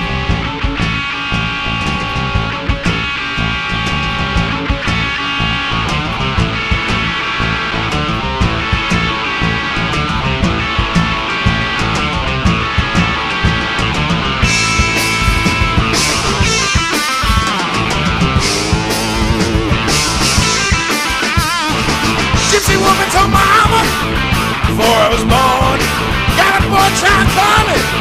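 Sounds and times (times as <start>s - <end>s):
blues-rock band playing: 0.0s - 28.0s
electric lead guitar bent notes: 0.0s - 28.0s.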